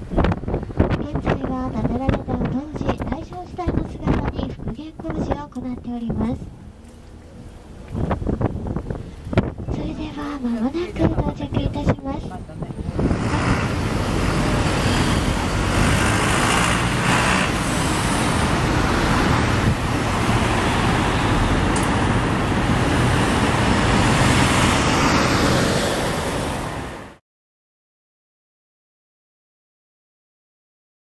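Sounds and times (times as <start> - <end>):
traffic rumble of engines and tyres: 0.0 - 27.2.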